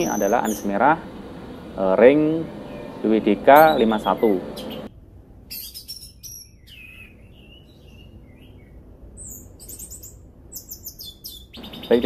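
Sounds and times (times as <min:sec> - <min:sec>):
bird high chirps: 0:00.0 - 0:00.9, 0:02.5 - 0:04.9, 0:05.5 - 0:12.0.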